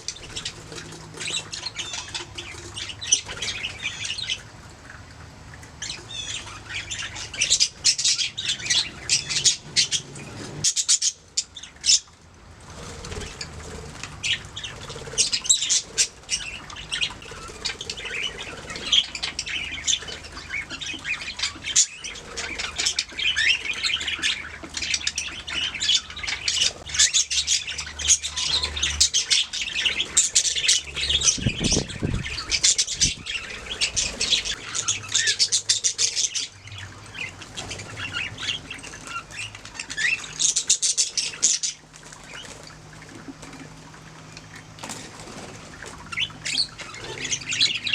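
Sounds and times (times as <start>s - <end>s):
budgerigars chirping and chattering: 0.0s - 5.0s, 5.8s - 47.9s.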